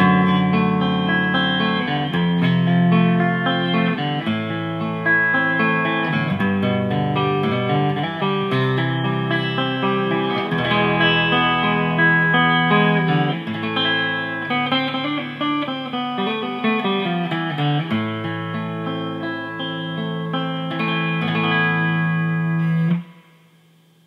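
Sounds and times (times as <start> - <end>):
archtop guitar playing: 0.0 - 23.6.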